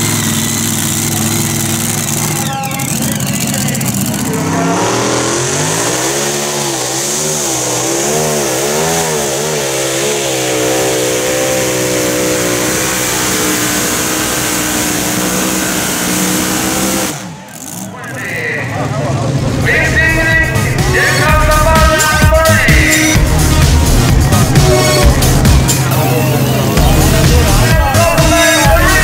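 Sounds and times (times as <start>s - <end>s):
pulling tractor engine roaring: 0.0s - 29.0s.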